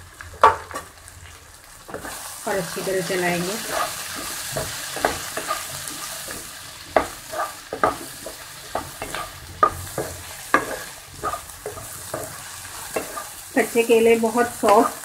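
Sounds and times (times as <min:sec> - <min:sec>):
food sizzling: 0:00.0 - 0:15.0
spatula scraping frying pan: 0:01.9 - 0:15.0.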